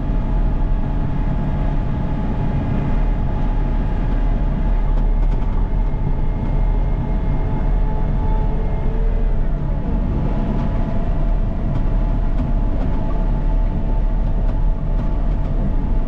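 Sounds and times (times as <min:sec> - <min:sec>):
diesel engine low drone: 0:00.0 - 0:16.0.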